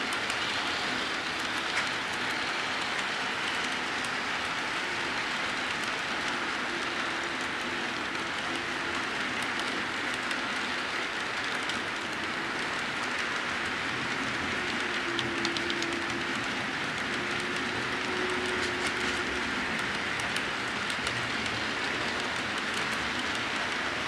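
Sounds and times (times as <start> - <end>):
model train rolling rumble: 0.0 - 24.0
wheels clicking on track: 0.0 - 24.0.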